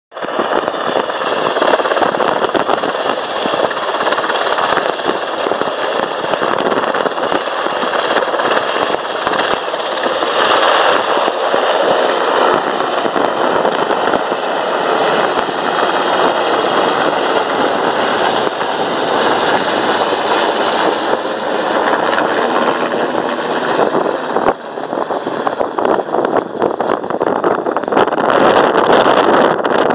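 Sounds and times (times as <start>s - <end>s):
rapid rotor chop: 0.1s - 26.8s
helicopter turbine noise: 0.1s - 29.9s.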